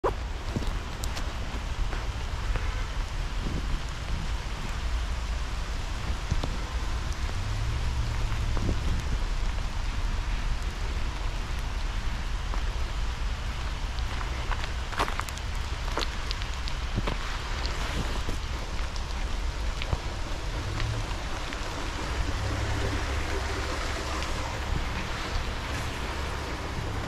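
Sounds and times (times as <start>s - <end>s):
steady outdoor hiss: 0.0s - 27.0s
low rumble: 3.2s - 27.0s.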